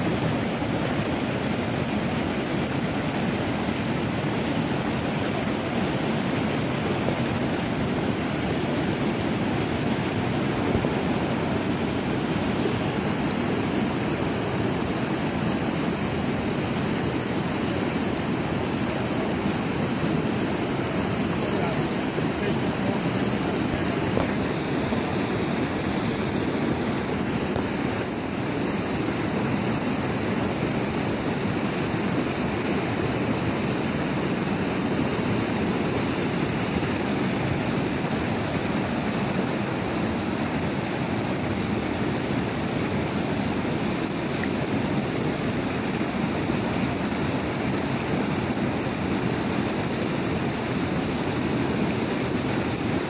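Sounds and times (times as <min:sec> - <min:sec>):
river rapids rushing over rocks: 0:00.0 - 0:53.0.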